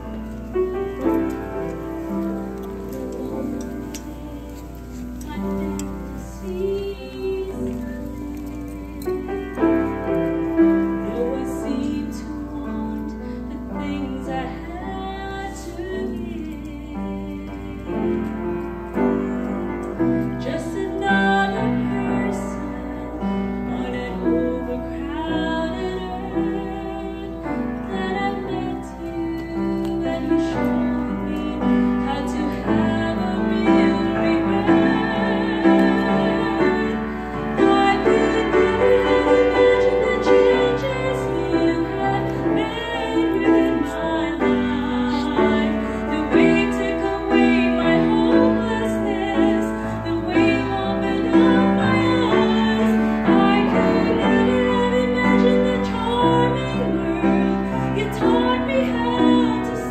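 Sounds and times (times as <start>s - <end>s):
piano accompaniment: 0.0s - 59.9s
woman singing: 0.0s - 59.9s.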